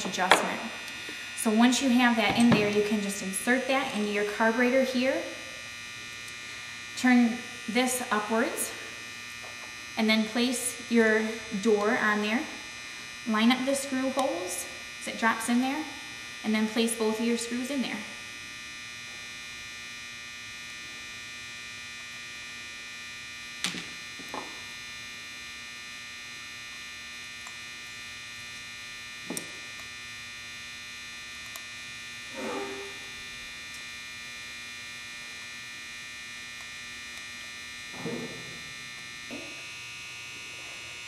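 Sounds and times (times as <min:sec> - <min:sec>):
electrical hum with whine: 0:00.0 - 0:41.0.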